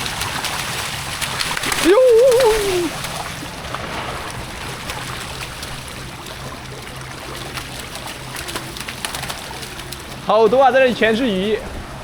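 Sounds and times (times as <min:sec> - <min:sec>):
fish thrashing and splashing water: 0:00.0 - 0:12.0.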